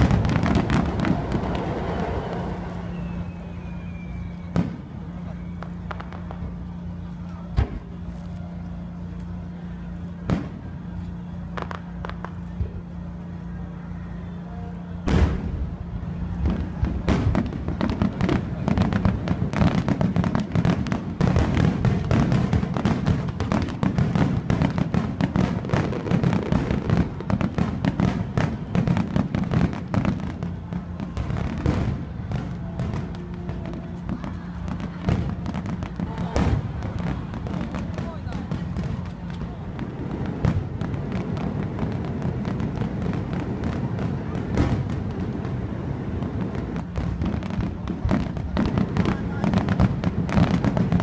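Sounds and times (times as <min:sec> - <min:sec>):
fireworks bangs and crackles: 0:00.0 - 0:51.0
low steady hum: 0:00.0 - 0:51.0.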